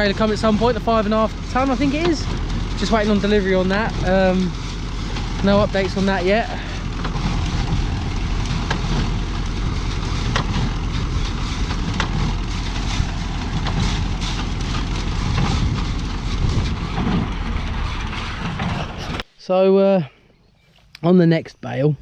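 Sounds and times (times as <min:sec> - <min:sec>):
tractor running: 0:00.0 - 0:22.0.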